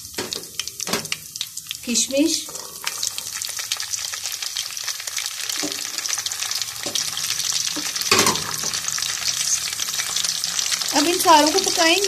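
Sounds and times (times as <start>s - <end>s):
spices sizzling in hot ghee: 0.0s - 12.0s.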